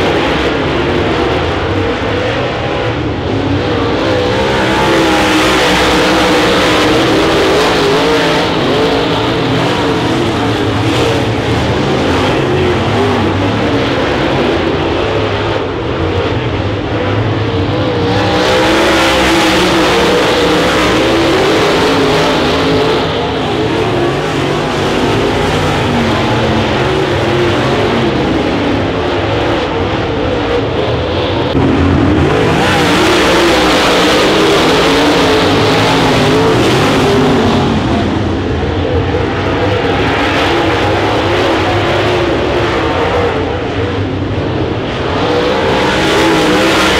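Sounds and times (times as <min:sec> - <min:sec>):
race car engines running hard: 0:00.0 - 0:46.9.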